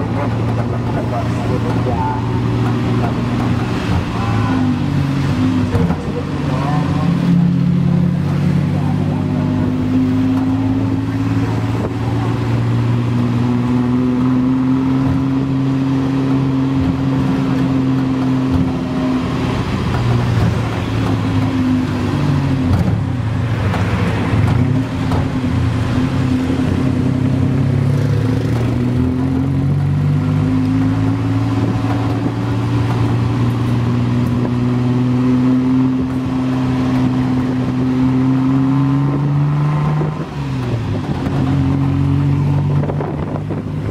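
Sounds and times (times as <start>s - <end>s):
tuk-tuk engine running: 0.0s - 43.9s.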